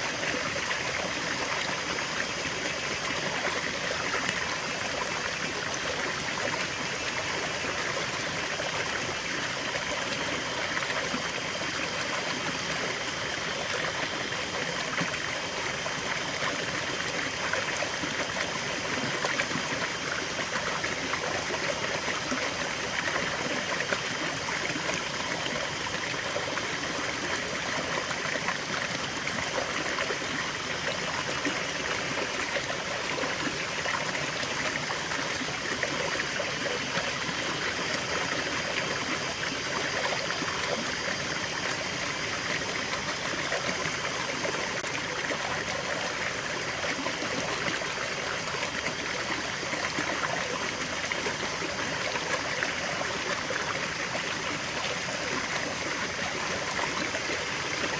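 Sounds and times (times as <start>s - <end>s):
stream trickling over stones: 0.0s - 57.9s.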